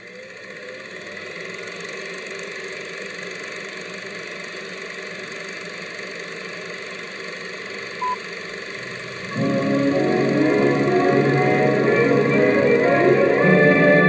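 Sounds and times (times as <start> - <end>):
film projector whirring and clattering: 0.0 - 12.4.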